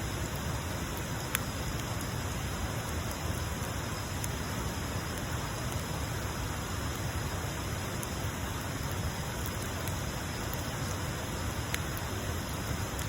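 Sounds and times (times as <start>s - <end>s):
bonfire hissing: 0.0s - 13.0s
fire crackling pops: 0.0s - 13.0s.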